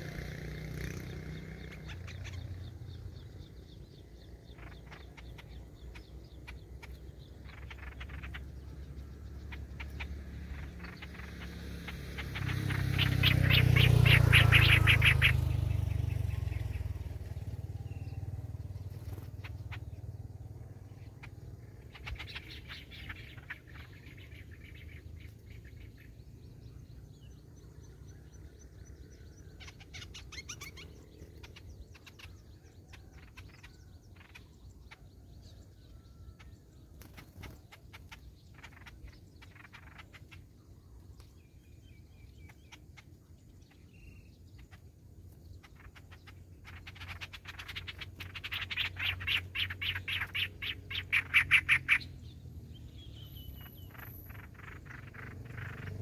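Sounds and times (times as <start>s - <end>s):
fast run of bird calls: 0.0s - 56.0s
small birds chirping: 0.0s - 56.0s.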